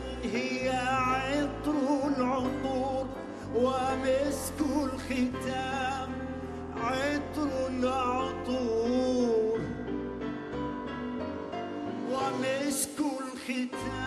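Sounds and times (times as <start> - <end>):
man singing with vibrato: 0.0 - 10.0, 11.9 - 14.0
keyboard: 0.0 - 14.0.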